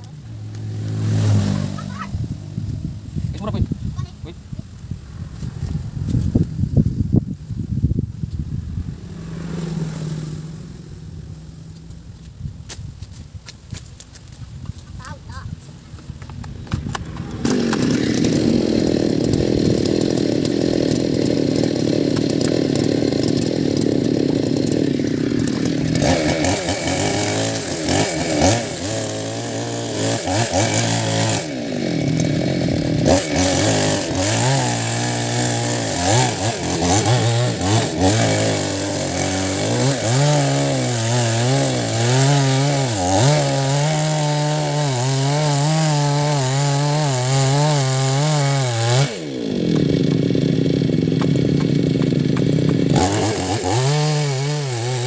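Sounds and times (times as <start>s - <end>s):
chainsaw cutting roots: 0.0s - 55.0s.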